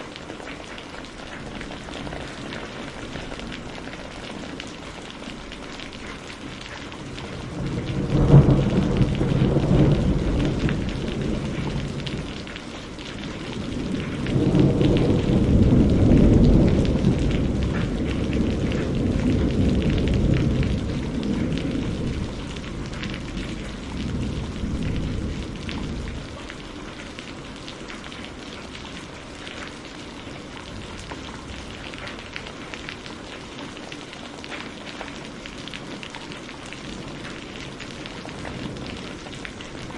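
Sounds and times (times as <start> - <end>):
steady rain: 0.0 - 39.9
thunder rumbling: 0.3 - 33.8, 35.1 - 39.9.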